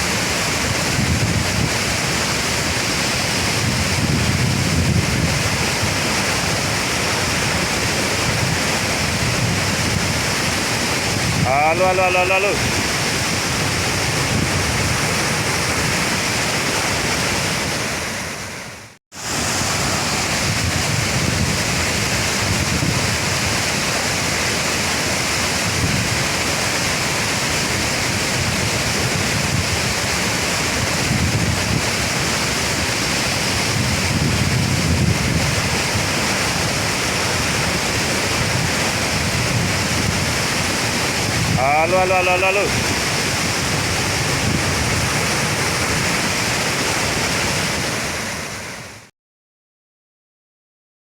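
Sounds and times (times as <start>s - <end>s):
waterfall rushing: 0.0s - 49.1s.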